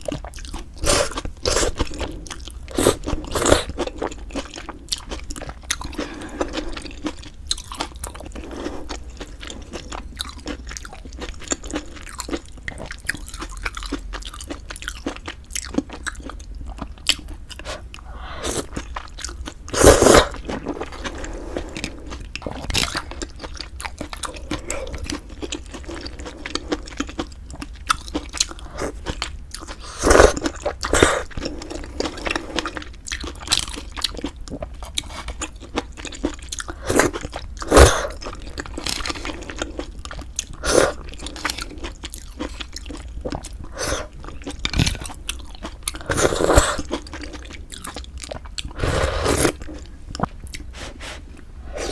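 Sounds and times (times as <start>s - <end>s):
chewing with wet clicks: 0.0s - 18.0s, 18.6s - 48.8s, 49.6s - 50.7s.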